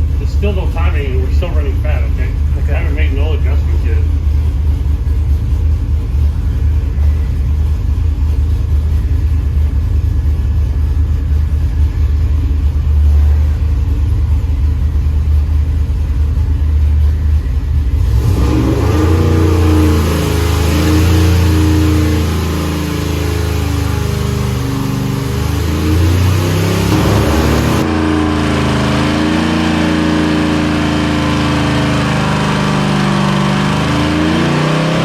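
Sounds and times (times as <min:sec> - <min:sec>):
engine running on dyno: 0:00.0 - 0:35.0.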